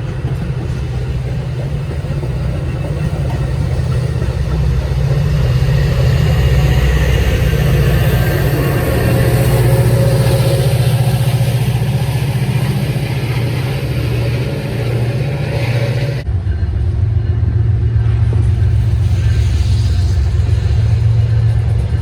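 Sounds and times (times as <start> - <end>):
diesel locomotive hum: 0.0 - 22.0
wheels rolling on rails: 0.0 - 22.0.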